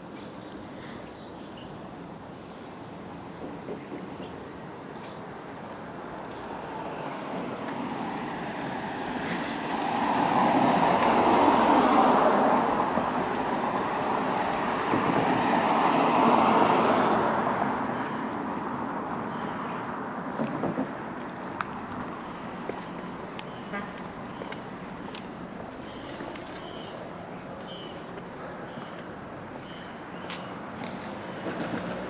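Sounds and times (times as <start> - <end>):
road traffic passing: 0.0 - 32.0.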